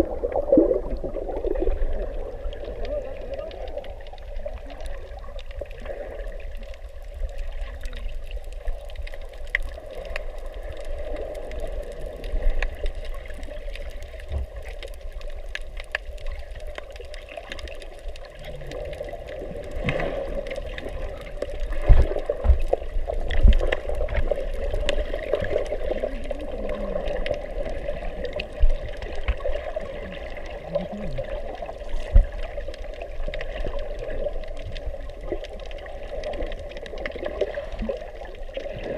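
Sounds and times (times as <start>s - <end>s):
muffled underwater water rush: 0.0s - 38.9s
faint clicks: 2.7s - 38.7s.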